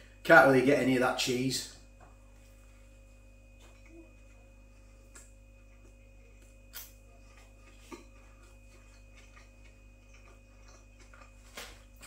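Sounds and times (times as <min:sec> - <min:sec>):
low hum: 0:00.0 - 0:12.0
man chewing: 0:02.3 - 0:12.0.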